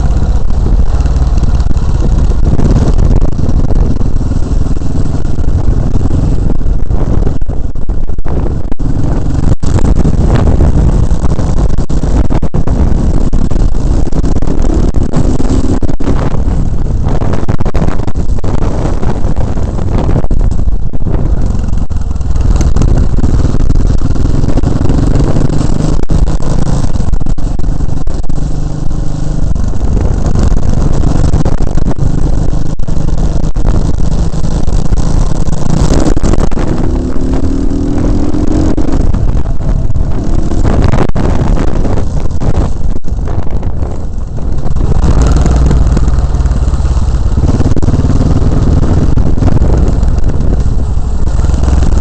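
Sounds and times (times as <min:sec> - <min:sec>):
loud vehicle engine accelerating: 0:00.0 - 0:52.0.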